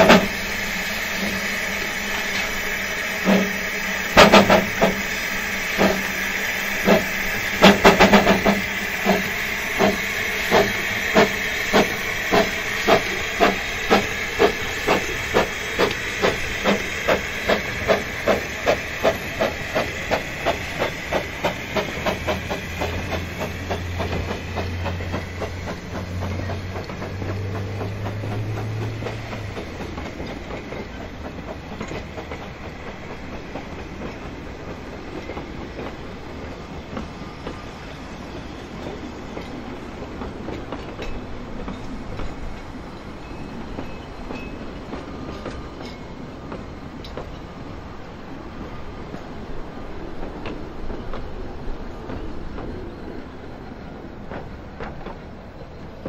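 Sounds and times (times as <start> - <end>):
carriages clacking over rail joints: 0.0 - 0.6, 2.0 - 56.0
steam hissing: 0.0 - 56.0
steam locomotive exhaust beats: 0.0 - 56.0.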